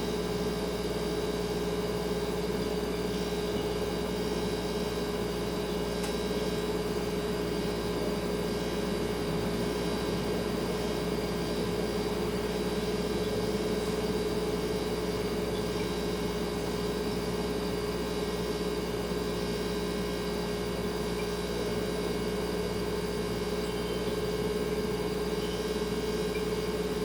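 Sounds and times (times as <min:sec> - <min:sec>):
refrigerator humming: 0:00.0 - 0:27.0.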